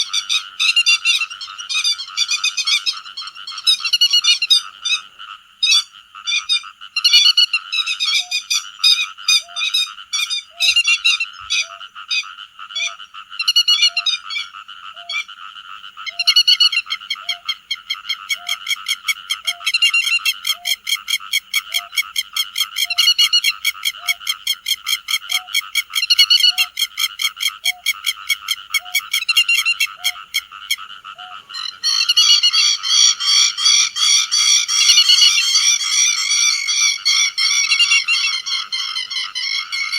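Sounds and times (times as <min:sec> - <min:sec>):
lapwing calling: 0:00.0 - 0:39.9.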